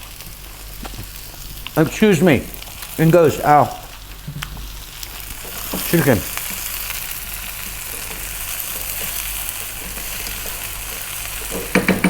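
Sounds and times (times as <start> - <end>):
stir-fry sizzling in a wok: 0.0 - 12.0.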